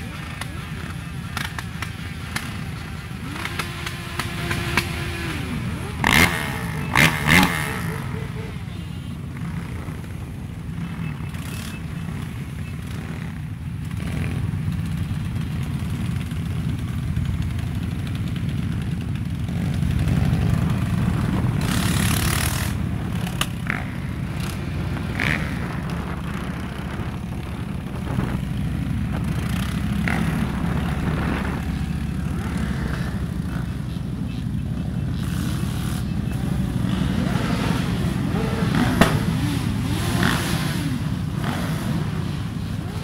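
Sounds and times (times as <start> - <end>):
motorcycle engines running: 0.0 - 43.0.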